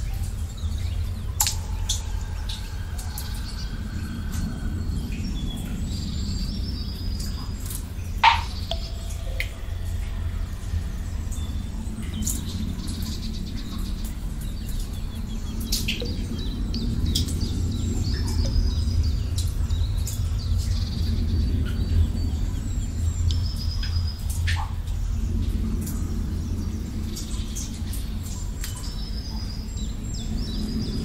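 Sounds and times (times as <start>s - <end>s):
low rumble: 0.0s - 31.0s
small birds chirping: 0.0s - 31.0s.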